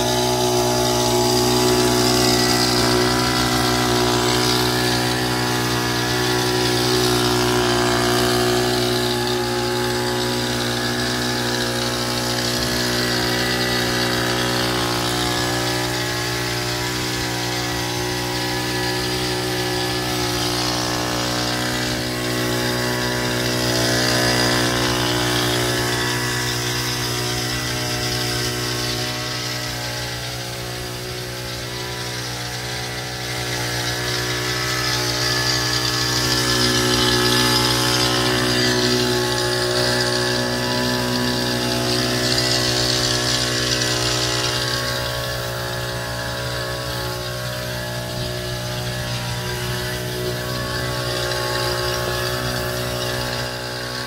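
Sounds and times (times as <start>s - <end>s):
mist sprayer engine running: 0.0s - 54.0s.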